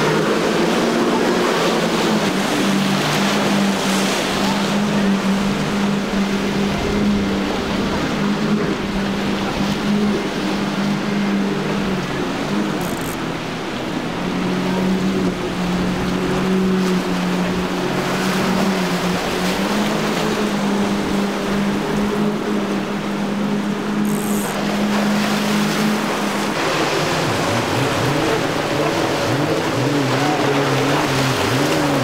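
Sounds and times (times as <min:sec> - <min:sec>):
choppy sea: 0:00.0 - 0:32.0
outboard motors droning: 0:00.0 - 0:32.0.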